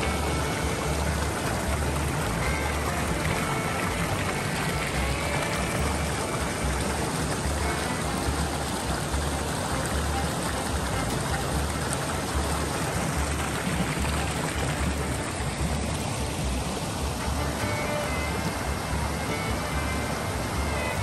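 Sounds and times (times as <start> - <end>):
stream rushing over stones: 0.0 - 21.0.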